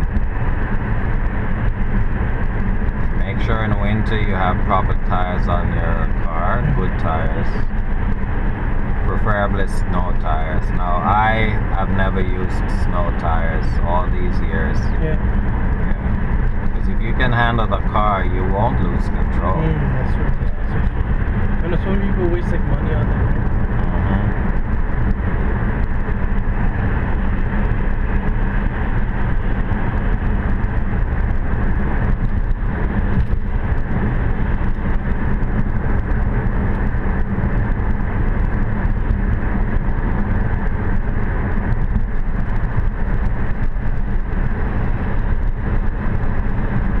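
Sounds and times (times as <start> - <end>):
car engine hum: 0.0 - 47.0.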